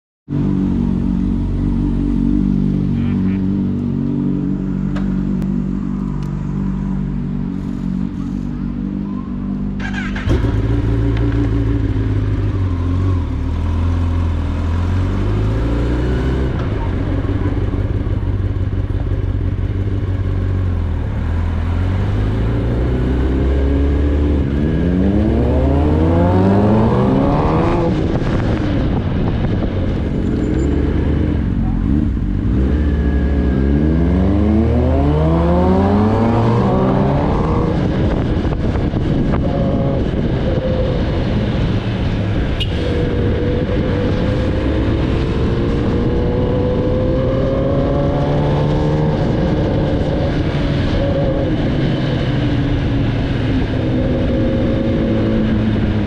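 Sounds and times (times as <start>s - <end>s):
motorcycle engine revving: 0.3s - 56.0s
motorcycle riding off: 0.4s - 56.0s.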